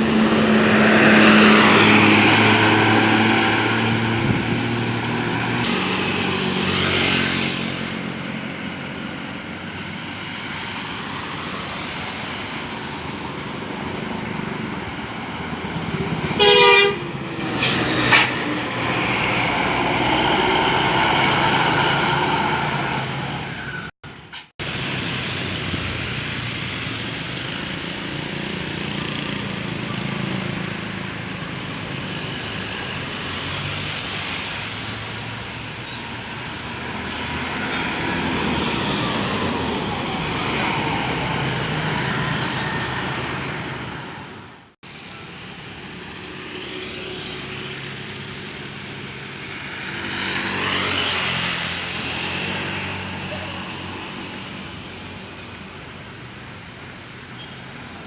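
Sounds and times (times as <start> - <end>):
diesel bus engines: 0.0 - 58.0
road traffic noise: 0.0 - 58.0.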